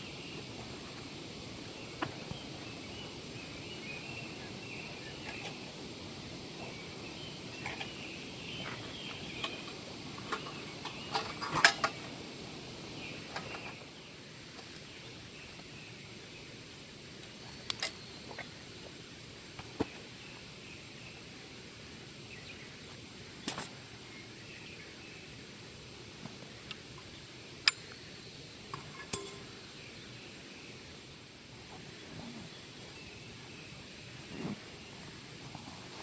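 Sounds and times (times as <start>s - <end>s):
faint chirping: 0.0s - 12.2s, 12.9s - 36.0s.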